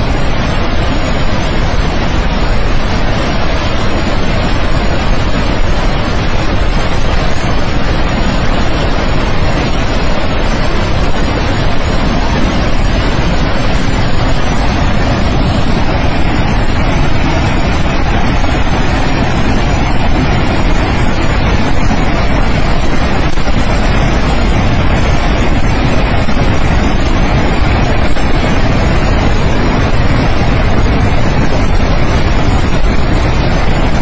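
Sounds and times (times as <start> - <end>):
river floodwater rushing: 0.0 - 34.0.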